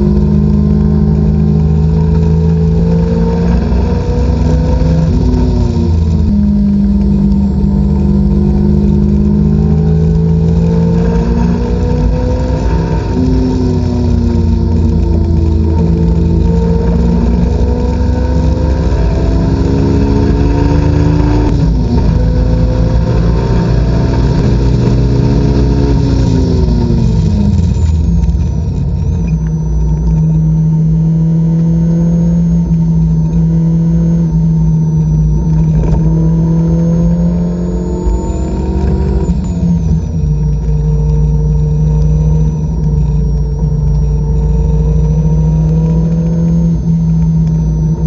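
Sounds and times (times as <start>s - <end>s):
car engine accelerating: 0.0s - 48.0s
faint high whine: 0.0s - 48.0s.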